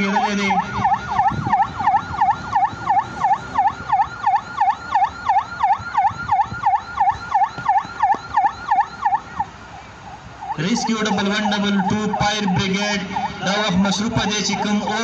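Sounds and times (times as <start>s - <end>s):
siren yelping: 0.0s - 15.0s.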